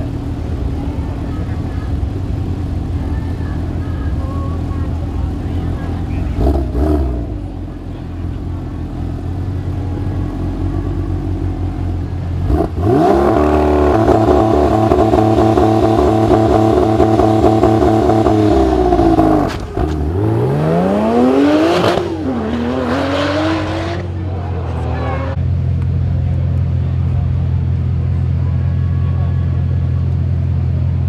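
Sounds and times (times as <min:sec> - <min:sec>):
car engine revving and accelerating: 0:00.0 - 0:25.4
gear upshift: 0:00.0 - 0:25.4.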